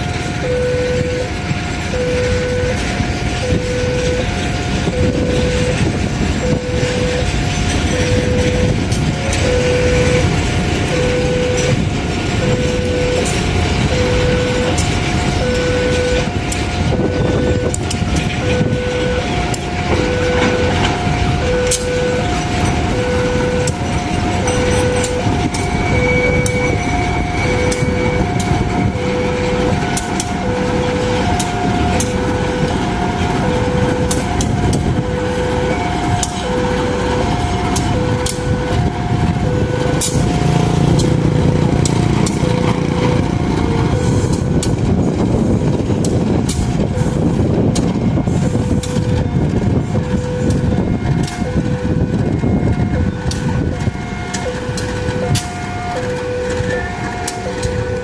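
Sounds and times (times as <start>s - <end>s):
level crossing alarm two-tone: 0.0s - 58.0s
train rumbling past: 0.0s - 58.0s
train wheels clacking on rails: 0.0s - 58.0s.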